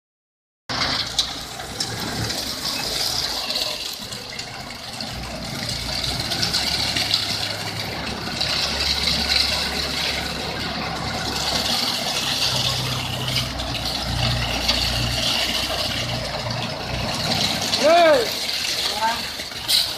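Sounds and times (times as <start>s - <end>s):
diesel engine running: 0.7s - 19.9s.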